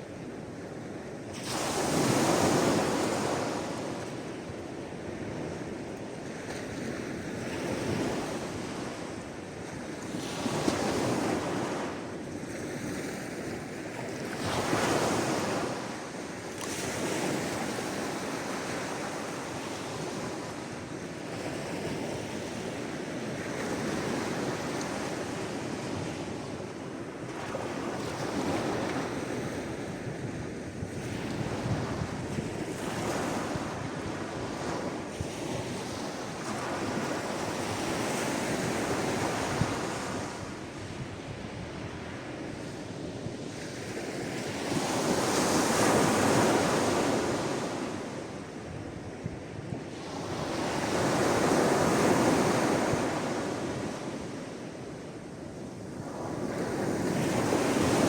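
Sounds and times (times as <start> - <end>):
wind noise on microphone: 0.0 - 54.6
sea waves washing ashore: 0.0 - 58.0.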